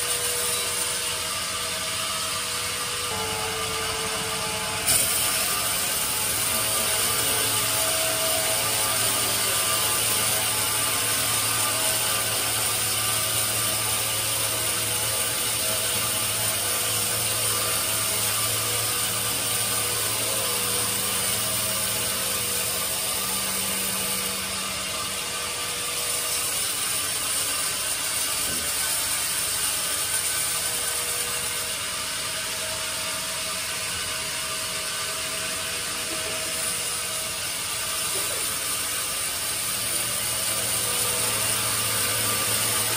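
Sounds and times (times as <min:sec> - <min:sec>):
bandsaw blade cutting wood: 0:00.0 - 0:42.9.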